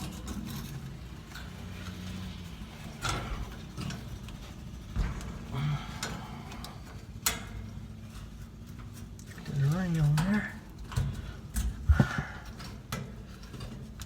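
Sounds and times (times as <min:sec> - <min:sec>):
fuel pump parts knocking and clicking: 0:00.0 - 0:14.0
steady low hum: 0:00.0 - 0:14.0.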